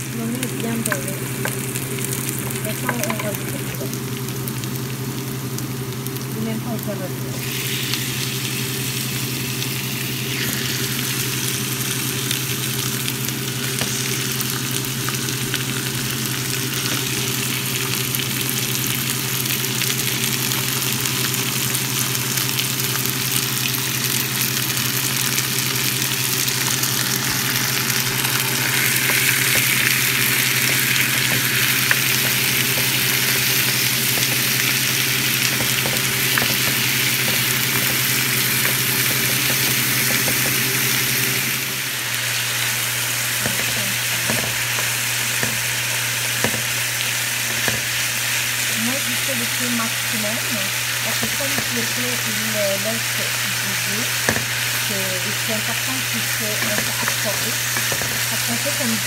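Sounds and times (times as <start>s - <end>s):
chicken and onions sizzling in oil: 0.0s - 59.0s
steady low hum: 0.0s - 59.0s.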